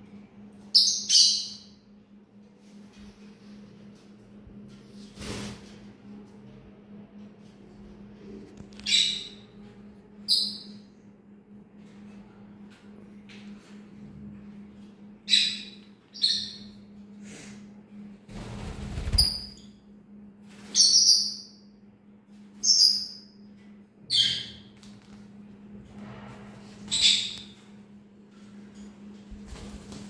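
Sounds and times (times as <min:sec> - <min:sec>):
steady low hum: 0:00.0 - 0:20.7, 0:23.2 - 0:30.0.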